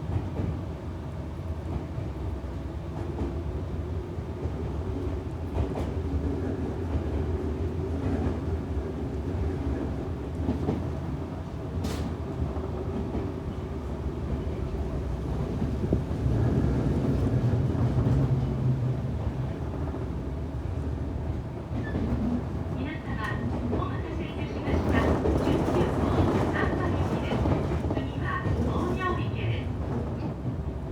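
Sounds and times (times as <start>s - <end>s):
train wheels rumbling on track: 0.0s - 30.9s.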